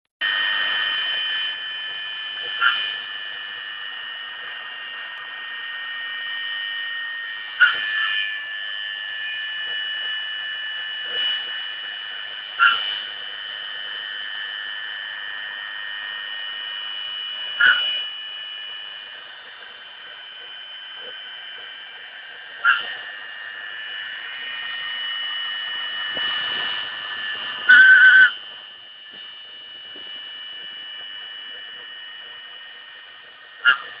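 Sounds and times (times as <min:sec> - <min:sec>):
router whining cutting foam: 0:00.2 - 0:34.0.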